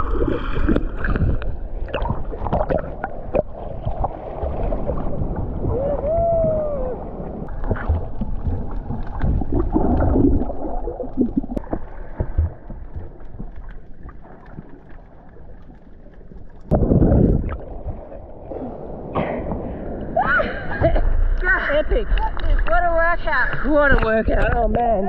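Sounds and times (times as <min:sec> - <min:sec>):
splashing and bubbles: 0:00.0 - 0:20.8
muffled water sloshing underwater: 0:00.0 - 0:25.0.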